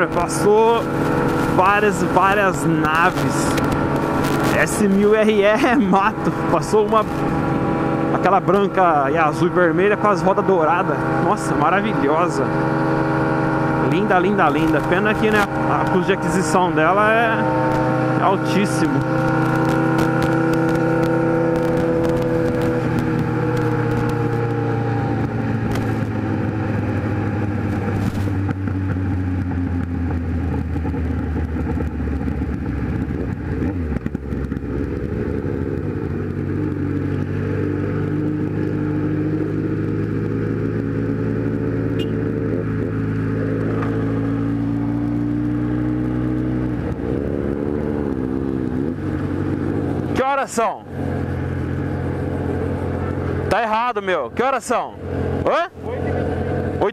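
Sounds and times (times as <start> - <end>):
motorcycle engine: 0.0 - 56.9.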